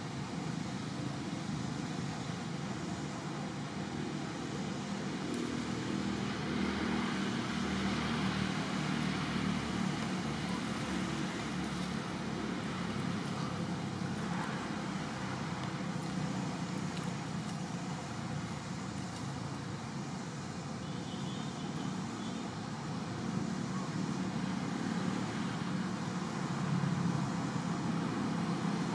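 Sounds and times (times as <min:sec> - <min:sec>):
low rumble of traffic: 0:00.0 - 0:28.9.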